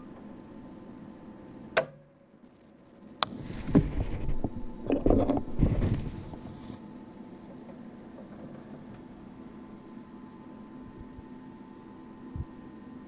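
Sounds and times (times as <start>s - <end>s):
control panel hum: 0.0s - 13.0s.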